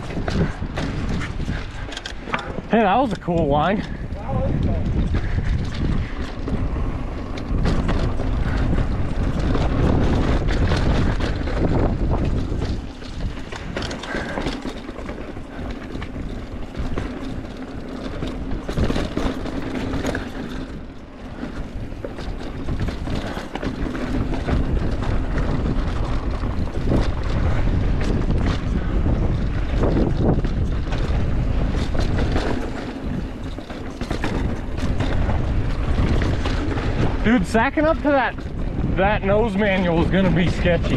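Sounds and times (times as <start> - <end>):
bike rattling: 0.0 - 40.9
wind rumbling on microphone: 0.0 - 40.9.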